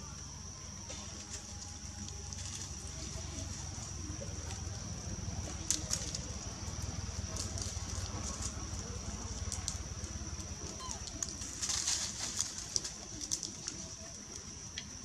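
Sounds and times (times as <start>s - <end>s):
steady high whine: 0.0s - 15.0s
dry leaves and twigs crackling: 0.1s - 15.0s.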